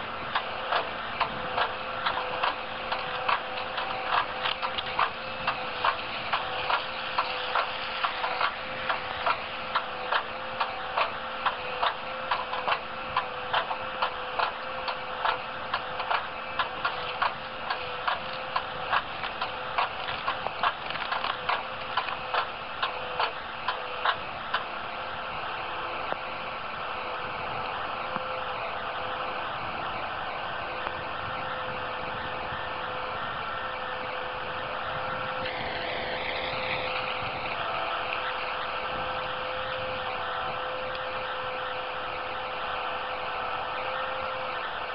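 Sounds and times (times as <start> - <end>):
hydraulic machine hum: 0.0 - 44.9.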